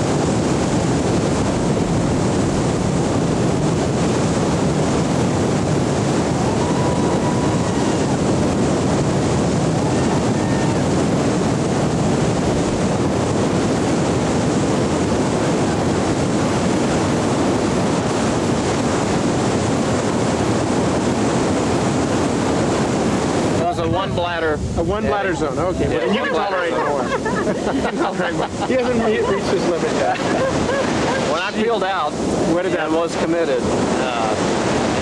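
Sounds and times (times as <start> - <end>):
whitewater river rushing: 0.0 - 35.0.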